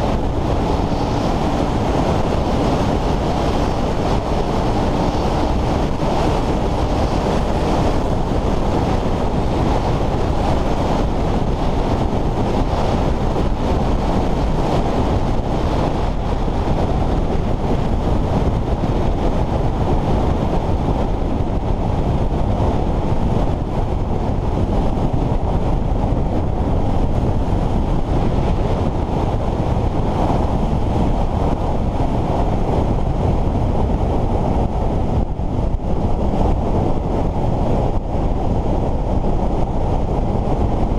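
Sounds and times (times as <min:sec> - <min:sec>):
heavy wind noise: 0:00.0 - 0:40.9.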